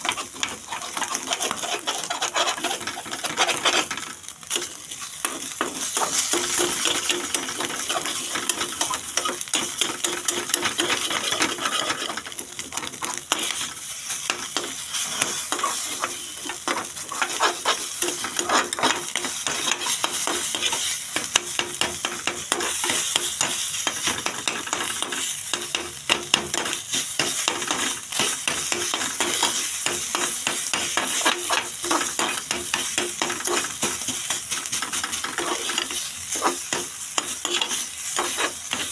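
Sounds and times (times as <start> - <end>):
egg sizzling in frying pan: 0.0 - 38.9
metal spoon scraping pan: 0.0 - 38.9.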